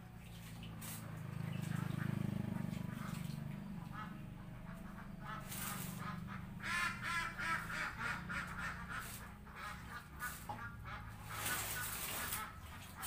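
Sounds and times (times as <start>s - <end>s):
low steady hum: 0.0s - 13.0s
ducks quacking: 1.3s - 13.0s.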